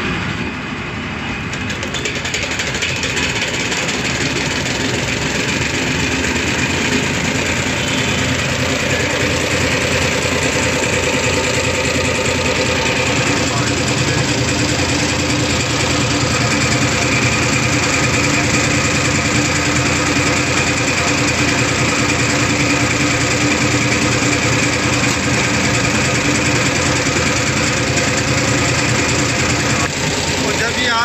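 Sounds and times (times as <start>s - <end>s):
test bench machine running: 1.4s - 31.0s
fuel spray hissing: 2.2s - 31.0s.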